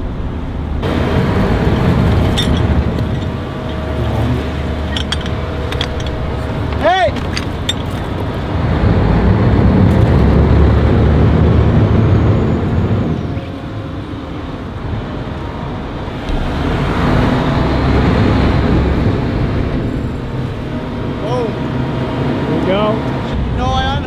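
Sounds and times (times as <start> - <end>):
tugboat engine rumbling: 0.0 - 24.0.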